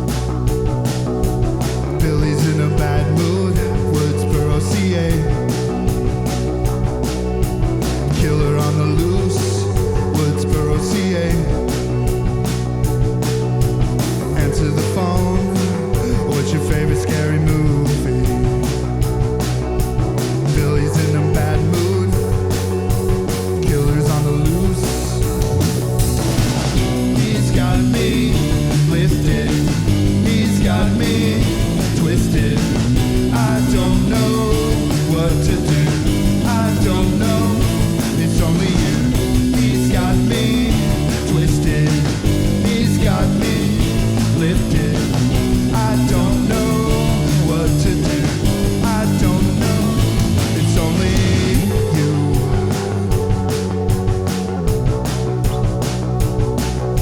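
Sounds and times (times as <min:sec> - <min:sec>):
rock band playing: 0:00.0 - 0:57.0
person singing: 0:01.9 - 0:06.2, 0:08.0 - 0:12.4, 0:14.2 - 0:19.3, 0:20.4 - 0:26.0, 0:26.7 - 0:53.8.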